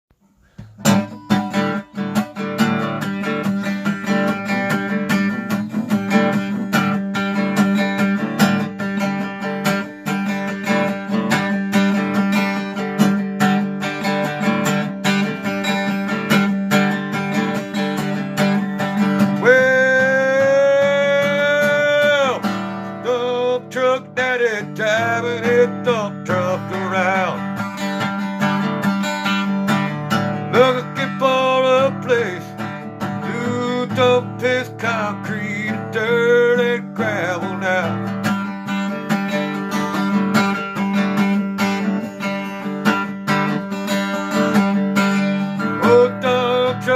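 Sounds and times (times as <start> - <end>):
strummed acoustic guitar: 0.2 - 46.9
guitar lead melody: 0.5 - 46.9.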